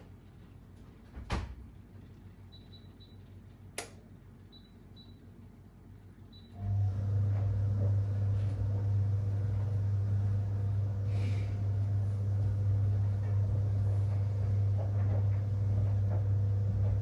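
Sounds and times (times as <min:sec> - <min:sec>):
washer motor humming: 0:00.0 - 0:17.0.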